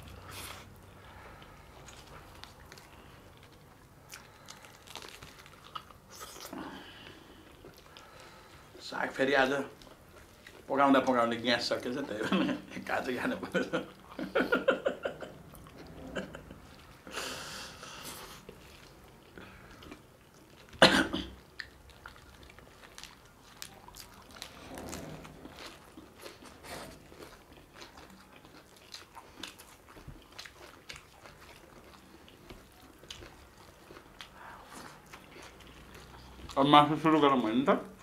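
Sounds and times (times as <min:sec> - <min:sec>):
people chewing and crunching: 0:00.0 - 0:38.0.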